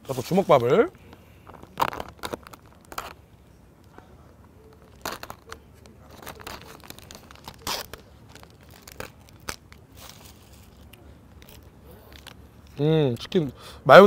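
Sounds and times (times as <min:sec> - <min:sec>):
plastic packaging crinkling: 0:00.1 - 0:03.2, 0:04.6 - 0:13.3.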